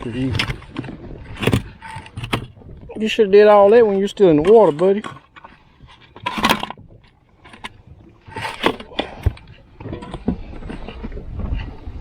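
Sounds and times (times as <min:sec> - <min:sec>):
fish thrashing in a boat: 0:00.0 - 0:12.0.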